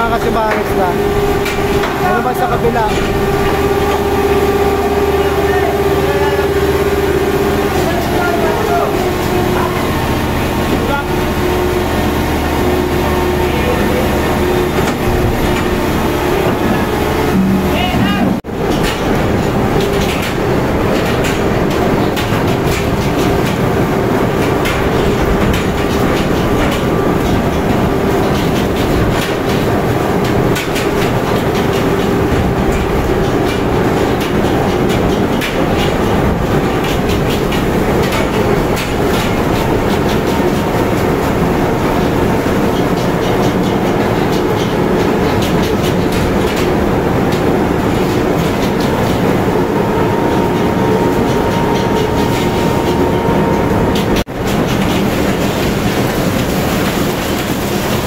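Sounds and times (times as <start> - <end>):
conveyor machinery humming and clattering: 0.0 - 58.0.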